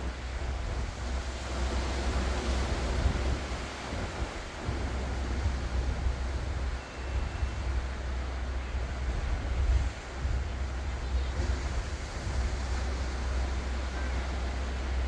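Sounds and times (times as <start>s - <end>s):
ocean waves washing ashore: 0.0s - 15.0s
wind rumble on microphone: 0.0s - 15.0s.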